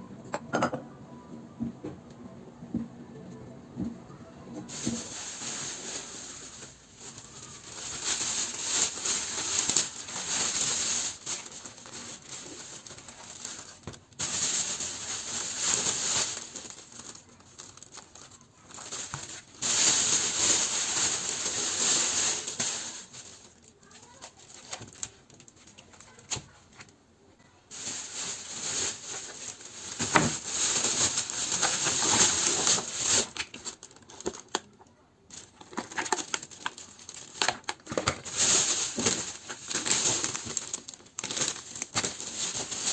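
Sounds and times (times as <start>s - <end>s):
packaging crinkling: 4.7s - 26.5s, 27.7s - 42.9s.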